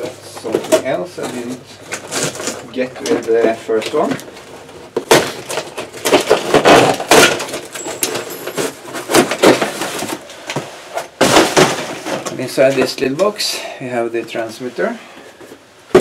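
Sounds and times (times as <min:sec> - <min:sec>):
cardboard scraping and rustling: 0:00.0 - 0:13.0.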